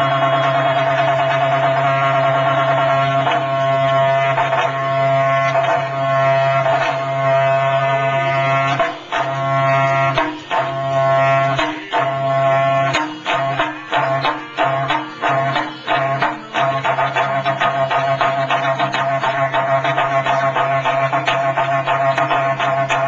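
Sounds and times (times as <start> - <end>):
percussion hits: 0.0 - 23.0
reedy melody: 0.0 - 23.0.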